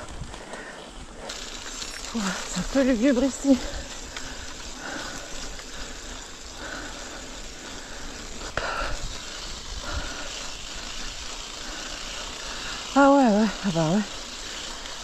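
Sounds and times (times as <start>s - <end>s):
bike tyres on stony trail: 0.0s - 15.0s.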